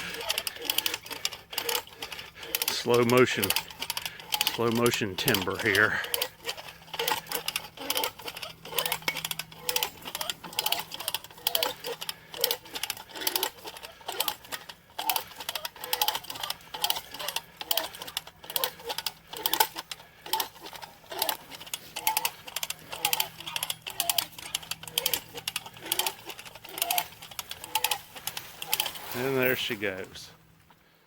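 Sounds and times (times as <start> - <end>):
ratchet clicking rapidly: 0.0 - 29.5.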